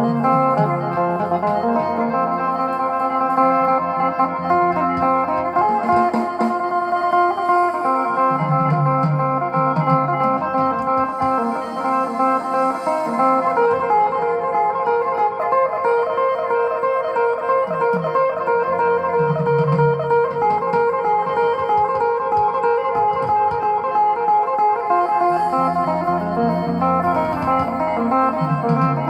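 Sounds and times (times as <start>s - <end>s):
backing music: 0.0s - 29.0s
plucked lute melody: 0.0s - 29.0s.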